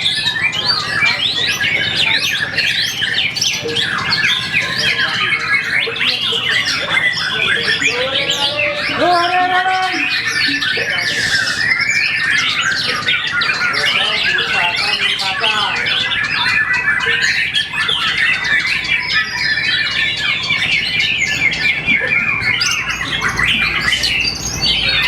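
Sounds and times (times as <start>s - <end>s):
songbird singing rapid trills: 0.0s - 25.0s.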